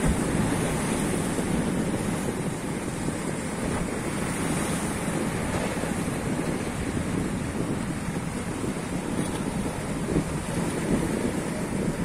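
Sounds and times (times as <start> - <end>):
waves washing over rocks: 0.0 - 12.0
wind buffeting microphone: 0.0 - 12.0.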